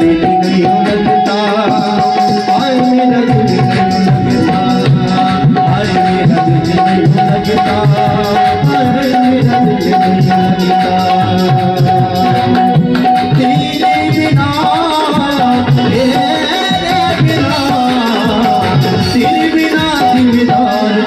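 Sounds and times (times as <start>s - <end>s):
electronic keyboard melody: 0.0s - 21.0s
tabla rhythm: 0.0s - 21.0s.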